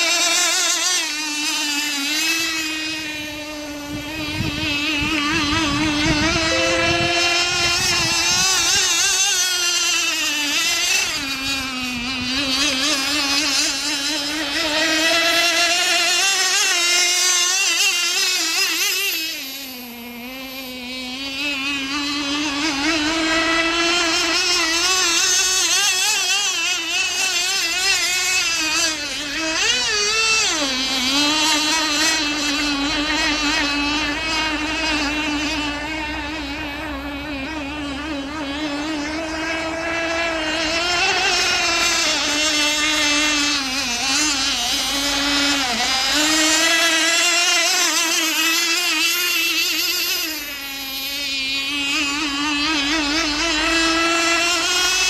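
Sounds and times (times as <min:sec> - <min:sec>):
high buzzing model boat engine: 0:00.0 - 0:55.0.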